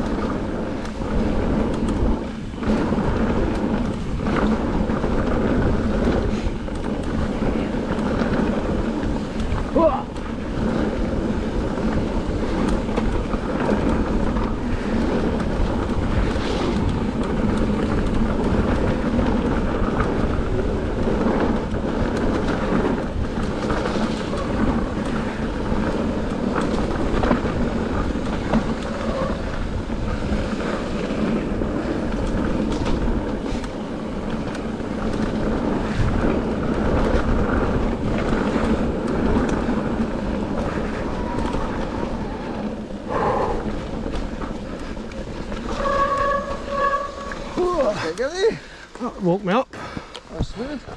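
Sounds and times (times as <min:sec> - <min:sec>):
bike knocks and rattles: 0:00.0 - 0:50.9
tyres rolling over gravel: 0:00.0 - 0:50.9
wind buffeting microphone: 0:00.0 - 0:50.9.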